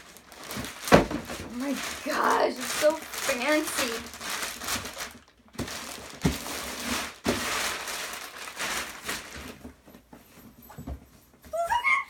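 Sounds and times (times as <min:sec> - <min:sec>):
packaging wrap crinkling: 0:00.0 - 0:10.1.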